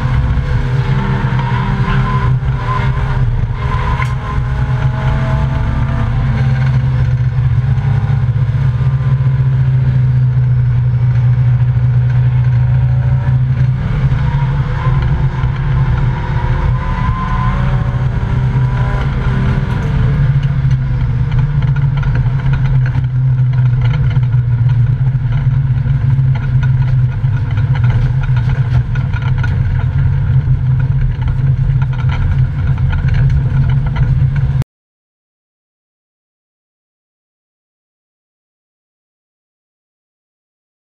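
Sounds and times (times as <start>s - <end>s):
race car engine droning: 0.0s - 34.6s.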